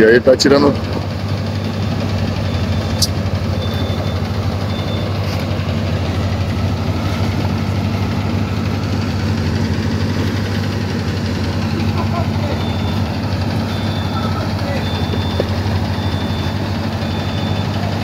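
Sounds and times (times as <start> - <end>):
truck diesel engine idling: 0.0 - 18.0.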